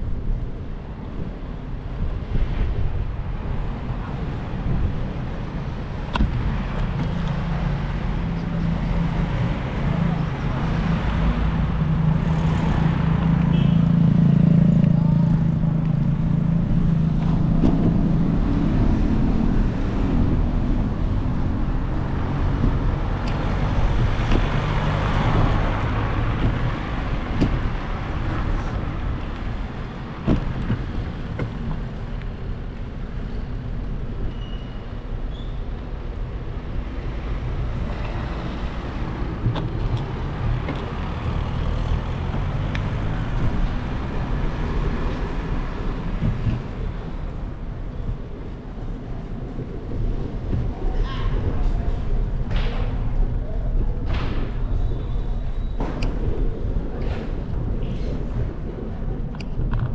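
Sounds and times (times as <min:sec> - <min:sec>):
road traffic rumble: 0:00.0 - 0:59.9
engine hum: 0:02.2 - 0:34.2, 0:35.8 - 0:59.9.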